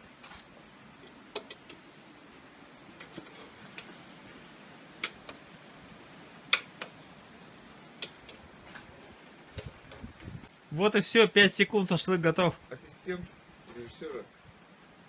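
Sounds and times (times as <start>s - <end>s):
coals crackling and popping: 0.0s - 14.7s
faint hiss: 0.0s - 15.0s.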